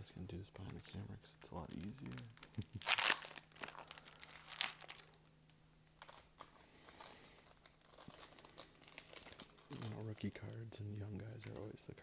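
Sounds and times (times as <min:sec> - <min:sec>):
faint low hum: 0:00.0 - 0:12.0
card pack crinkling and rustling: 0:00.4 - 0:11.8.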